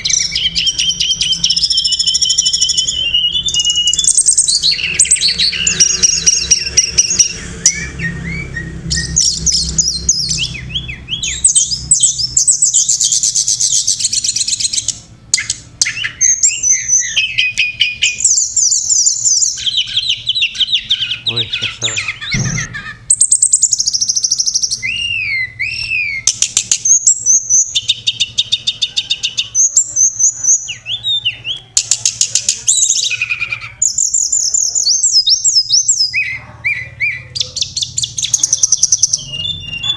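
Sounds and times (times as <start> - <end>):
bird song with chirps and trills: 0.0 - 39.9.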